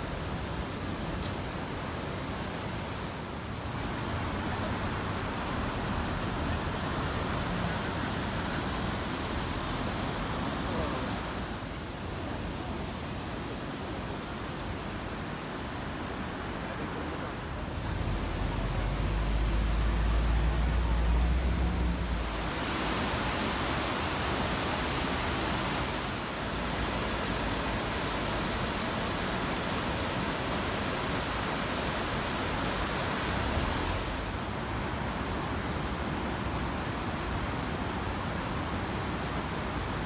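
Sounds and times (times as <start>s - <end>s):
water rushing over a weir: 0.0s - 40.0s.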